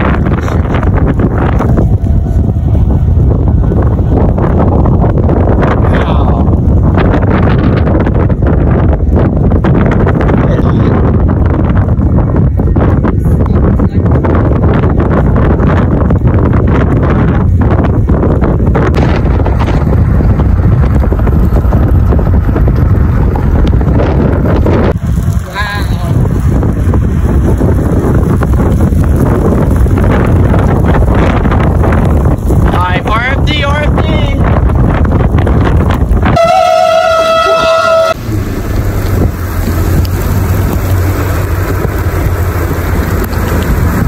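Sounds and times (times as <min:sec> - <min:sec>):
low rumble: 0:00.0 - 0:44.0
wind buffeting microphone: 0:00.0 - 0:44.0.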